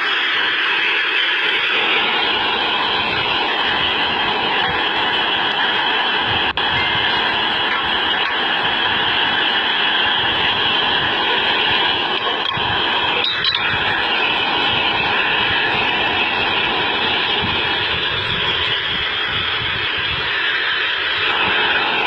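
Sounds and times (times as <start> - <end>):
heavy machinery running: 0.0 - 22.0.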